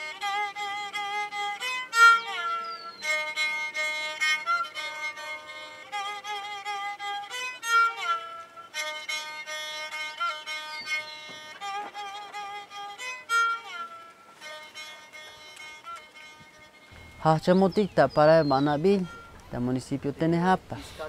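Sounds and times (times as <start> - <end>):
violin melody with slides: 0.0 - 20.4.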